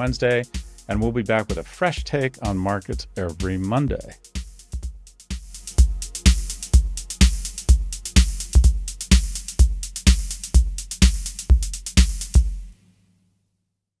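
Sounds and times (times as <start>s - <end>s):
electronic drum machine beat: 0.0s - 12.7s.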